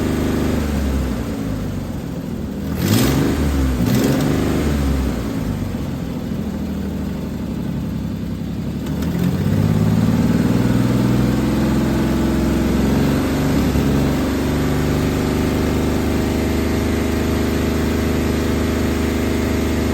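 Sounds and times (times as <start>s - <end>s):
engine idling and revving: 0.0s - 19.9s.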